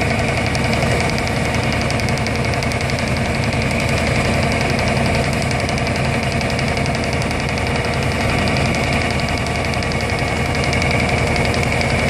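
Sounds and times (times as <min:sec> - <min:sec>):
vibratory hammer rattling: 0:00.0 - 0:12.0.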